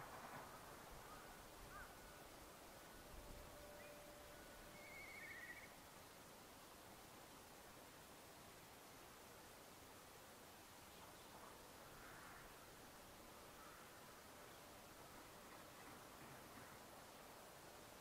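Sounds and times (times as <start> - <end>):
faint distant bird calls: 0.0 - 6.3, 8.4 - 18.0.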